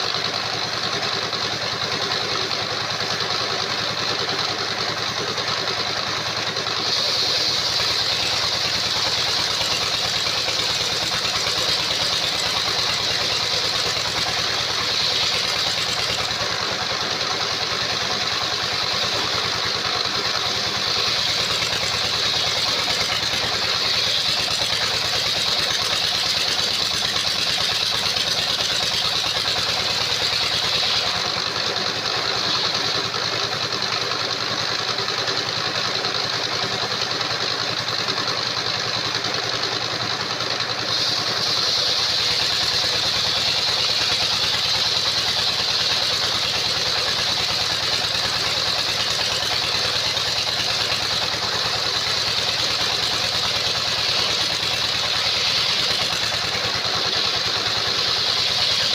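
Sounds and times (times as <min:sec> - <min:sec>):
sawmill blade whining: 0:00.0 - 0:58.9.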